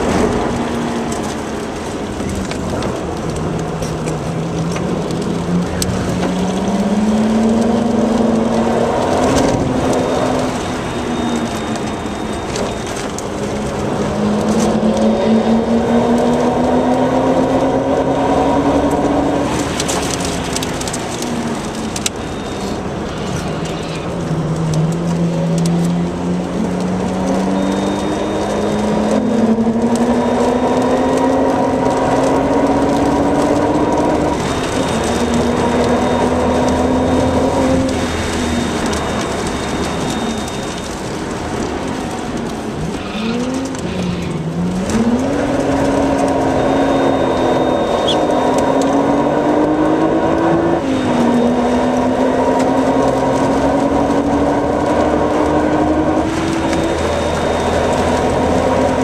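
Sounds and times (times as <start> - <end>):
car engine at racing speed: 0.0 - 59.0.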